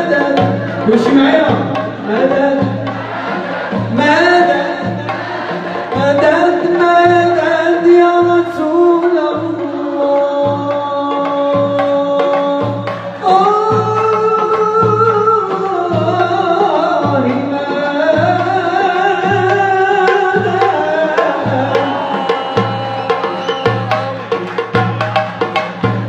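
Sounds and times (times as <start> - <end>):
man singing amplified chant: 0.0 - 3.0, 3.8 - 24.3
slow drum beat: 0.0 - 26.0.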